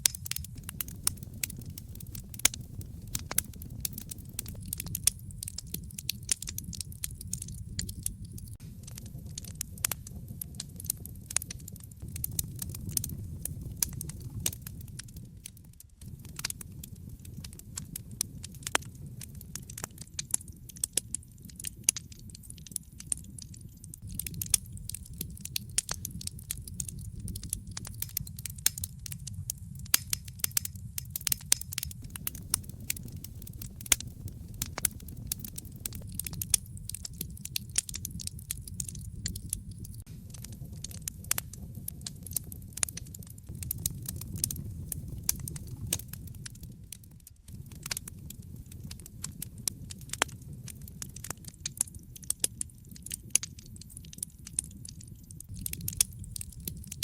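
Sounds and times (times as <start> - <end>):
fire pops and snaps: 0.0 - 57.0
low rumble of flames: 0.0 - 57.0.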